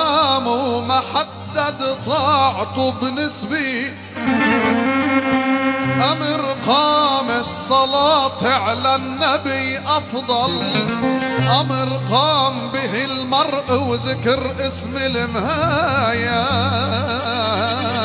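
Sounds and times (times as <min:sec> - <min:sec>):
amplified accompaniment with bass: 0:00.0 - 0:18.0
man singing ornamented vocal line: 0:00.0 - 0:18.0.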